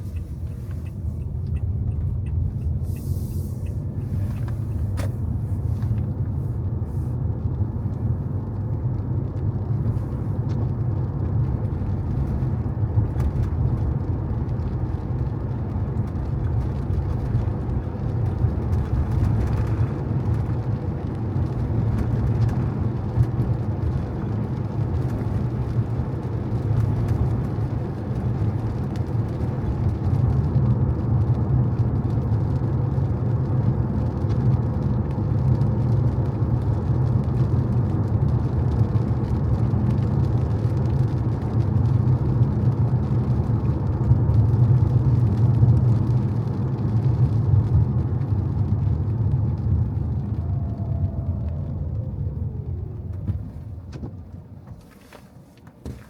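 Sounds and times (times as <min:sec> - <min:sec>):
car engine and tyres on wet road: 0:00.0 - 0:56.0.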